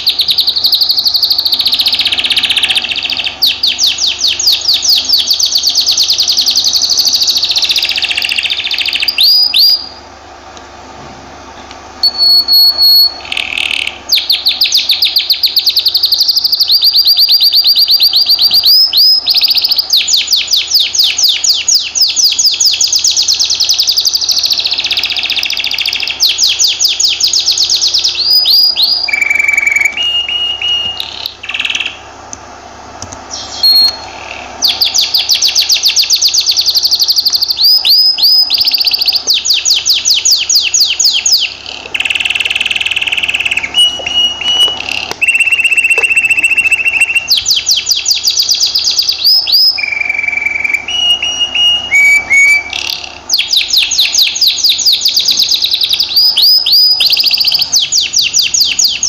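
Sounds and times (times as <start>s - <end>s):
canary trilling: 0.0s - 10.0s, 12.0s - 32.2s, 33.2s - 59.0s.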